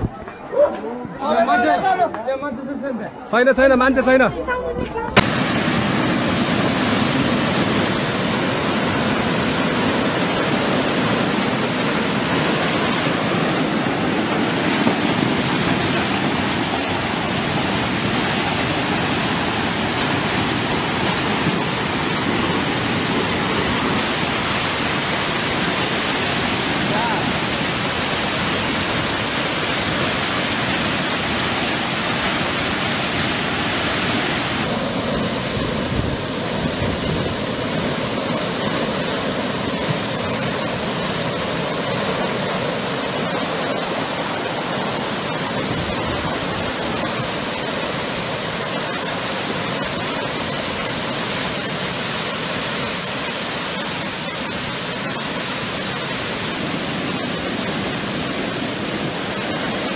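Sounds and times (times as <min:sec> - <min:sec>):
mud flow rushing down a channel: 0:05.2 - 0:59.9.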